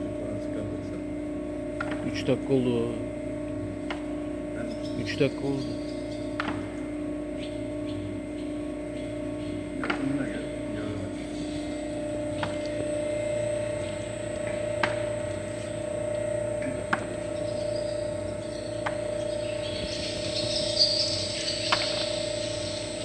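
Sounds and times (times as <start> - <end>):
oil press machine hum: 0.0 - 23.0.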